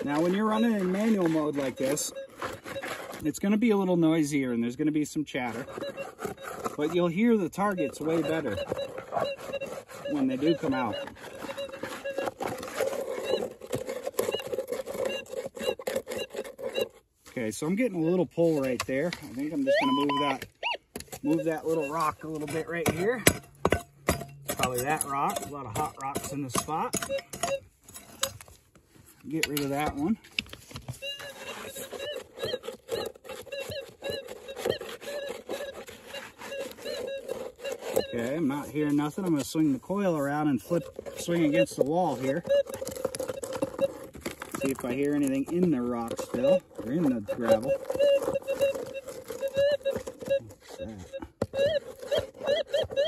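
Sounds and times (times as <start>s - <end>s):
metal detector warbling chirps: 0.0s - 13.6s, 17.9s - 23.2s, 24.6s - 27.7s, 31.0s - 53.0s
coil scraping on rocks: 0.0s - 53.0s.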